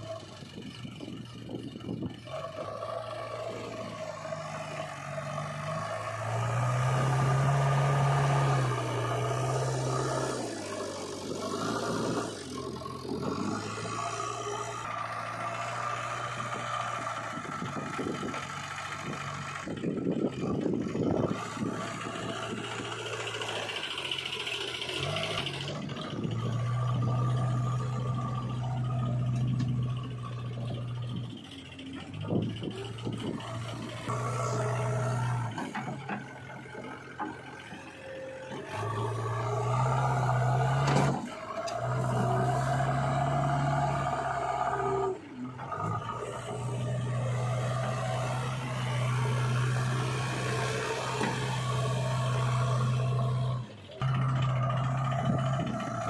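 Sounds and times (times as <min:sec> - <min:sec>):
diesel engine revving: 0:00.0 - 0:56.0
tractor engines running: 0:00.0 - 0:56.0.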